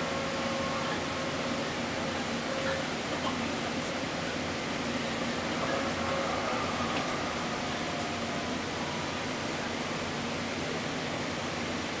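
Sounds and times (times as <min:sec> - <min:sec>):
rushing noise inside train car: 0:00.0 - 0:12.0.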